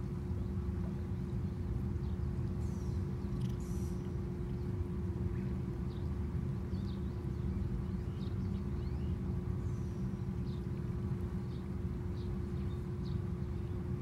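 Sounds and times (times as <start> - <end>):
constant hum: 0.0 - 14.0
steady low rumble: 0.0 - 14.0.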